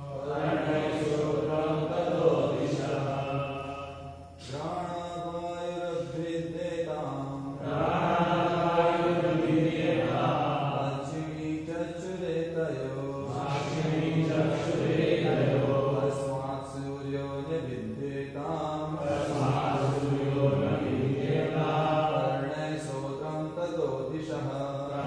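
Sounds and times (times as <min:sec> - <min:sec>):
voices chanting melodically: 0:00.0 - 0:25.0.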